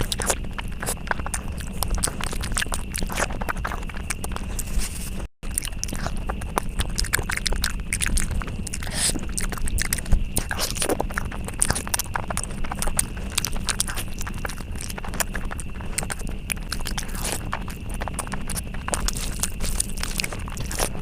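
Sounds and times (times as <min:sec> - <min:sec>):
crunchy chewing of food: 0:00.0 - 0:21.0.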